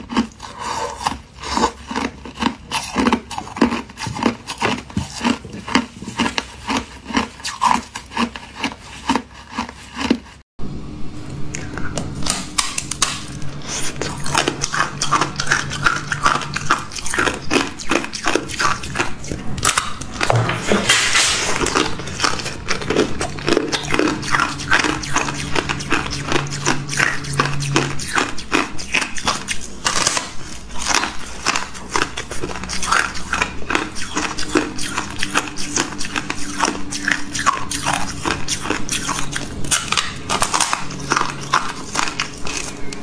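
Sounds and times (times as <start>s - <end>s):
ice being chewed and crunched: 0.0s - 10.4s, 11.6s - 43.0s.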